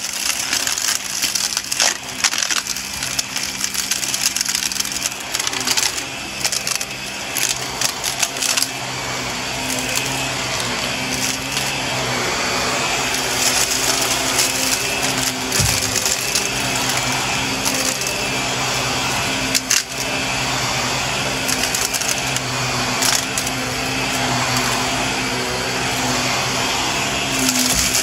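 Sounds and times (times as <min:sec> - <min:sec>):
debris crackling in vacuum: 0:00.0 - 0:28.0
vacuum cleaner motor hum: 0:00.0 - 0:28.0.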